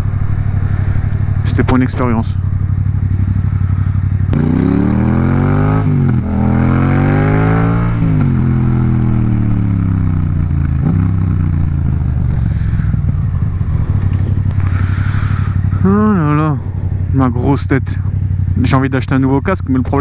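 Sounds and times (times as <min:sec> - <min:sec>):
motorcycle accelerating: 0:00.0 - 0:20.0.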